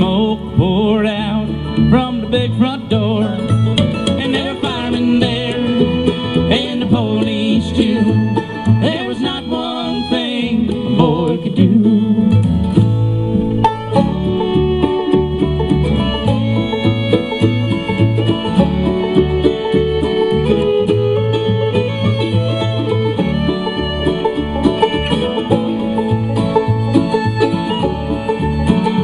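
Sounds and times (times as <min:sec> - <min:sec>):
banjo picking: 0:00.0 - 0:29.0
fiddle: 0:00.0 - 0:29.0
guitar: 0:00.0 - 0:29.0.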